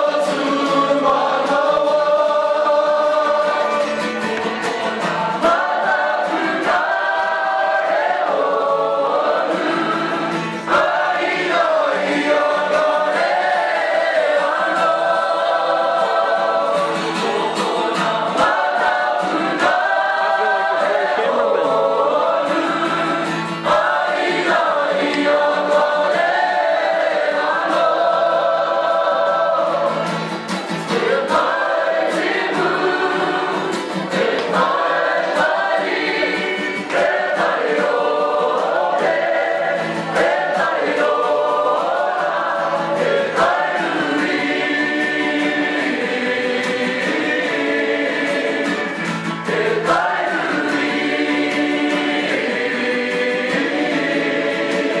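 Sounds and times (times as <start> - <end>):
group singing in harmony: 0.0 - 55.0.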